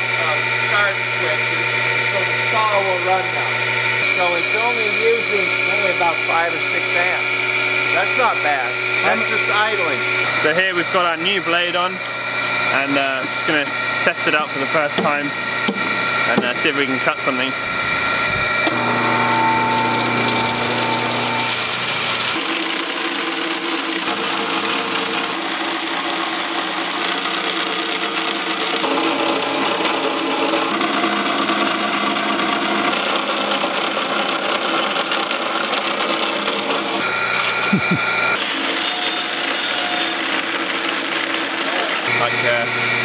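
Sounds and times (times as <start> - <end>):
band saw cutting timber: 0.0 - 43.0.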